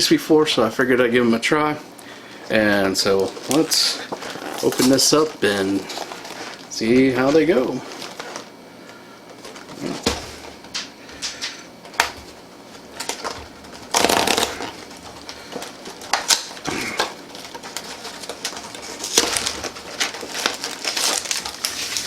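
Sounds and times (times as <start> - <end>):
plastic packets crinkling and tearing: 2.3 - 10.2, 10.8 - 22.0.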